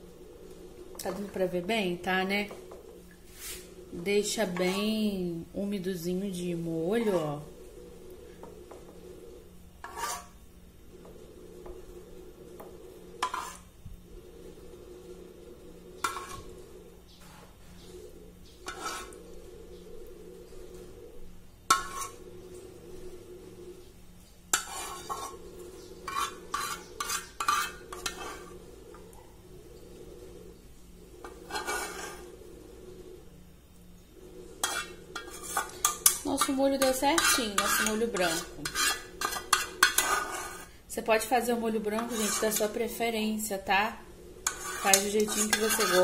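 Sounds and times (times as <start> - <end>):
low hum: 0.0 - 46.0
metal spoon scraping a pan: 0.5 - 5.3, 5.9 - 21.0, 21.6 - 23.4, 24.5 - 29.2, 29.8 - 32.6, 34.2 - 46.0.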